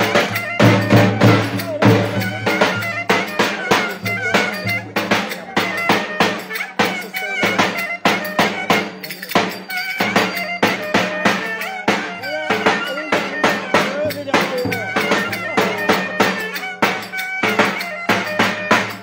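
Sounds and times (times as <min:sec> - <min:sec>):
fast steady drumming: 0:00.0 - 0:19.0
high wavering melody instrument: 0:00.0 - 0:19.0.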